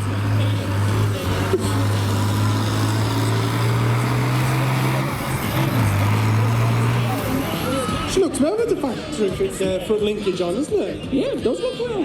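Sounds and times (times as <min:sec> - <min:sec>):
tractor diesel engine running: 0:00.0 - 0:10.3.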